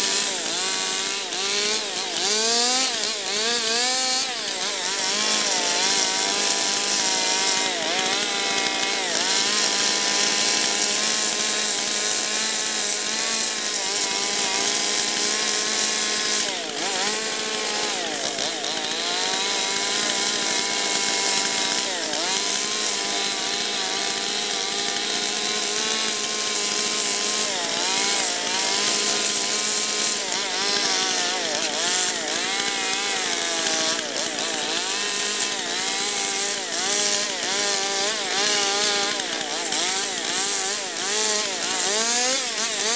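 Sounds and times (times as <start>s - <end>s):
chainsaw carving wood: 0.0s - 42.9s.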